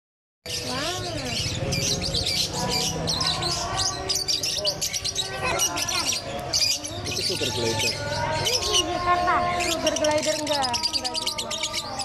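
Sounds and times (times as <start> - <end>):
songbirds chirping and twittering: 0.4 - 12.0.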